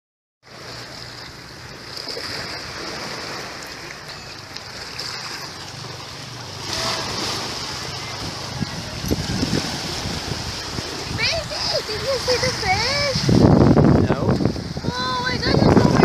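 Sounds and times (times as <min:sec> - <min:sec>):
waves washing against rocks: 0:01.3 - 0:16.0.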